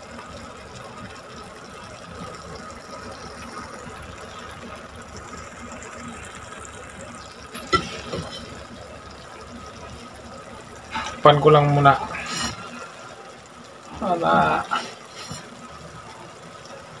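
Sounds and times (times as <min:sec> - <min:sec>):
food bubbling and sizzling in pan: 0:00.0 - 0:17.0.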